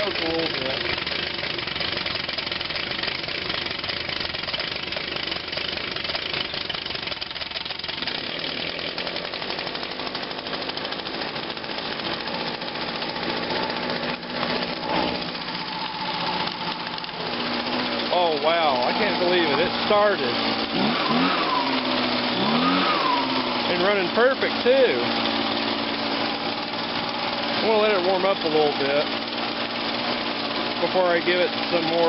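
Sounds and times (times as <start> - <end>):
leaf blower engine running: 0.0 - 32.0.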